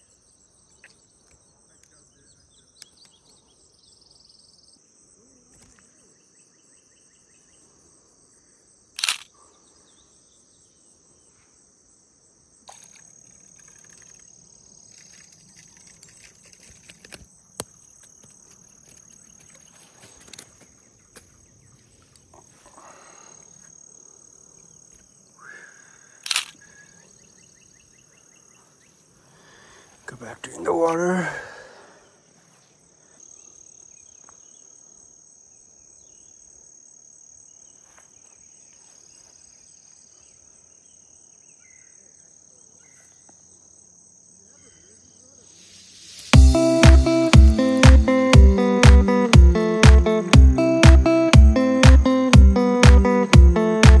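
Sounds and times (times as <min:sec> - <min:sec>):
insects trilling: 0:00.0 - 0:46.8.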